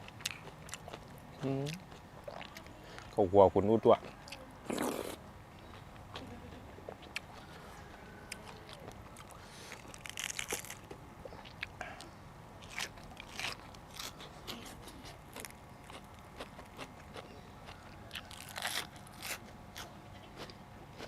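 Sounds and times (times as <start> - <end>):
crunchy chewing: 0.0 - 3.2, 3.8 - 21.0.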